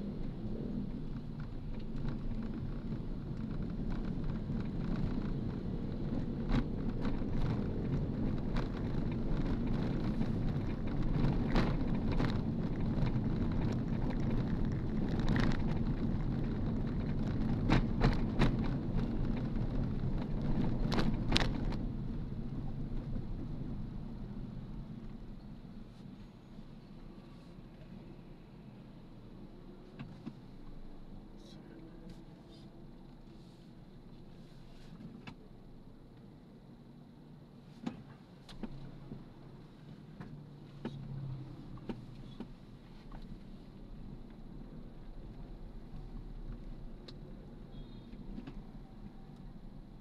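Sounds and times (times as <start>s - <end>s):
vehicle rumble: 0.0s - 50.0s.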